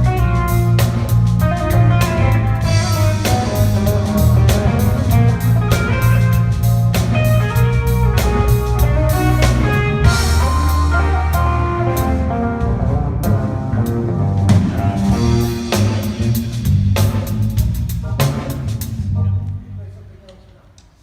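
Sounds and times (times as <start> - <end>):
electric guitar lead: 0.0 - 18.4
live band playing: 0.0 - 19.7.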